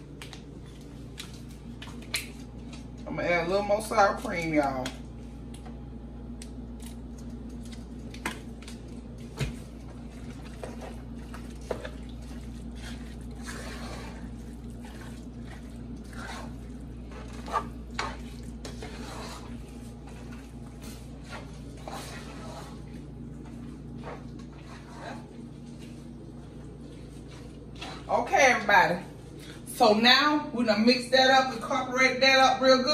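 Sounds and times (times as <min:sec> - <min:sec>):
wet squishing of stirring: 0:00.0 - 0:29.6
steady low hum: 0:00.0 - 0:32.9.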